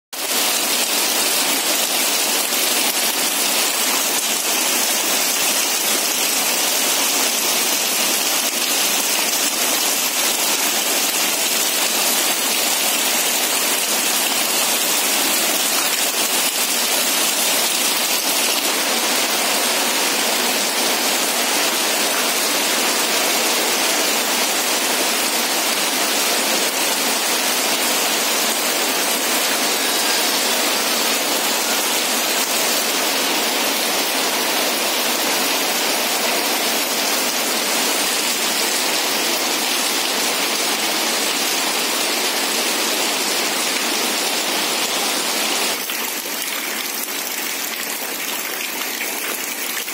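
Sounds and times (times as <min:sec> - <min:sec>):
heavy rain on corrugated roof: 0:00.1 - 0:49.9
water streaming off roof: 0:00.2 - 0:49.9.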